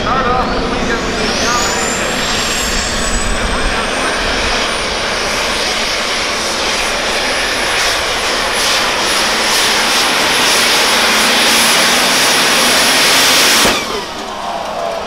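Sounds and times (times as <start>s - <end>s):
high turbo whistle: 0.0s - 15.0s
tractor engine at full throttle: 0.0s - 15.0s.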